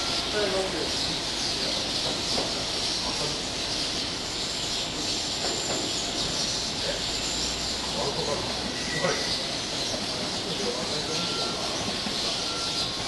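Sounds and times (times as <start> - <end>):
distant train hiss: 0.0 - 13.0
low background noise: 0.0 - 13.0.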